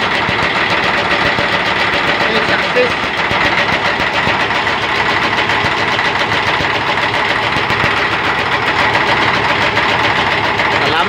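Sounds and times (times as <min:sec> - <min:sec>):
crane engine running: 0:00.0 - 0:11.0
water pump high whine: 0:00.0 - 0:11.0.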